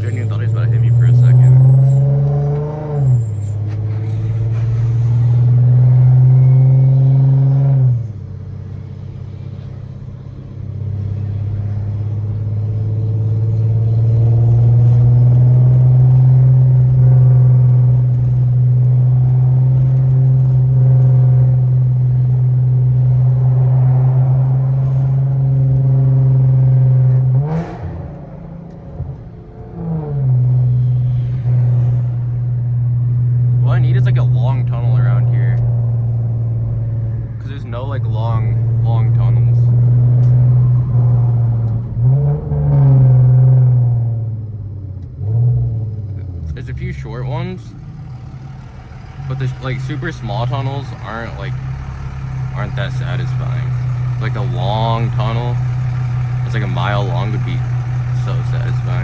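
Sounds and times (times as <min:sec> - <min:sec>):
car engine droning while driving: 0:00.0 - 0:59.0.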